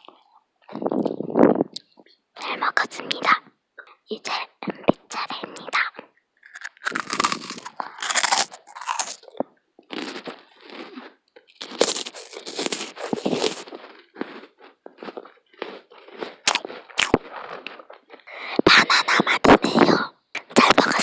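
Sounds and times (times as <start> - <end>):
person chewing crunchy cookie: 0.0 - 2.2, 3.1 - 21.0.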